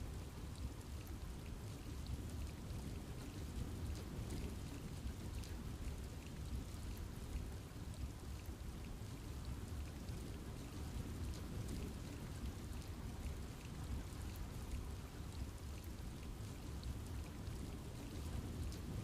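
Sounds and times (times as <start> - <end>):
steady rain in forest: 0.0 - 19.0.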